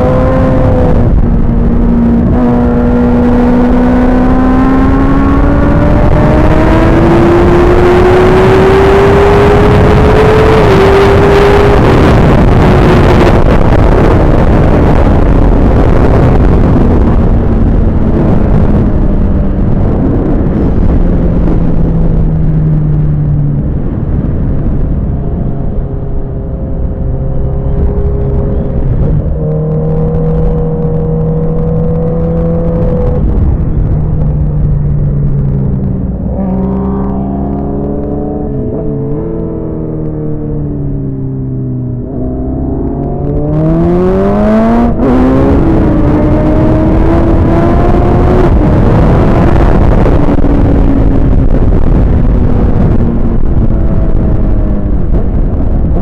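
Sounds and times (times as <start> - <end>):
racing motorcycle engine running hard: 0.0 - 56.0
wind rush: 0.0 - 56.0.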